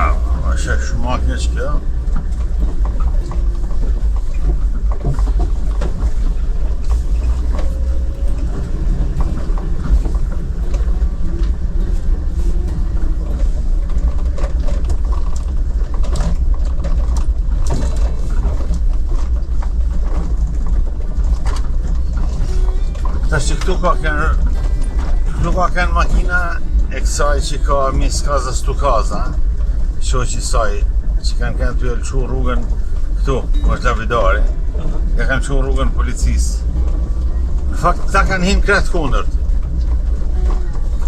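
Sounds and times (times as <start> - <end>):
small rattles: 0.0 - 41.0
vehicle rumble: 0.0 - 41.0.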